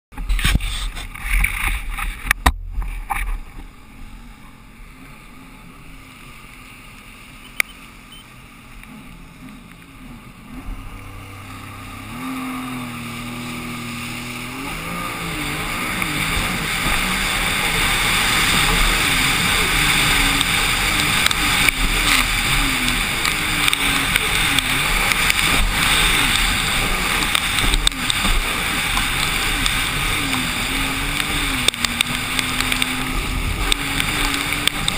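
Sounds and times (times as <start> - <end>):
personal watercraft engine: 0.1 - 34.9
wind and spray hiss: 0.2 - 34.9.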